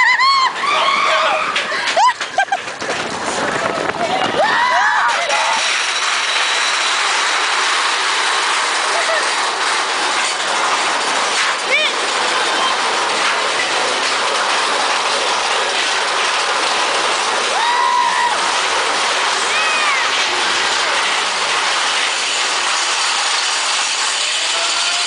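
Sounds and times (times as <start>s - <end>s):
roller coaster wheels rattling: 0.0s - 25.0s.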